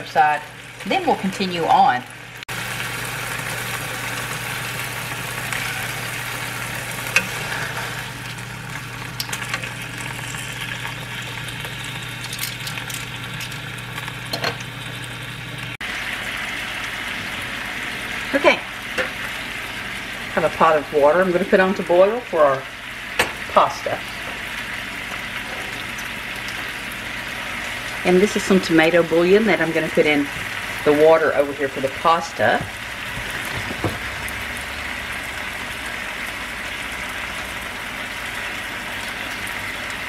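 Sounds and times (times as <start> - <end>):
chicken frying in oil: 0.0 - 40.0.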